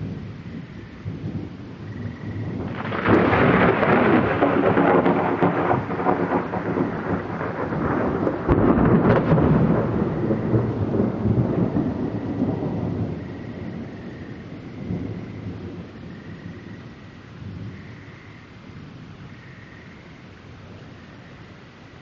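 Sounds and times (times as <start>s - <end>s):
thunder rumbling: 0.0s - 18.3s
steady rain: 0.0s - 22.0s.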